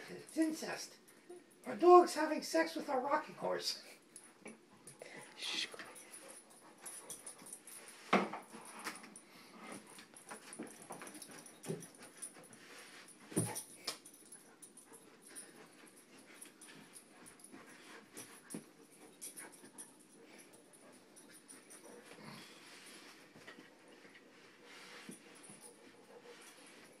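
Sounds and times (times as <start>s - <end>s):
puppy breathing and shuffling: 3.3s - 27.0s.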